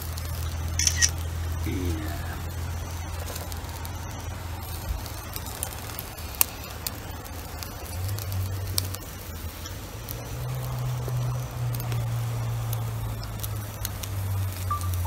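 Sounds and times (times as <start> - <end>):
charcoal pops and crackles: 0.0 - 15.0
skewers sizzling over charcoal: 0.0 - 15.0.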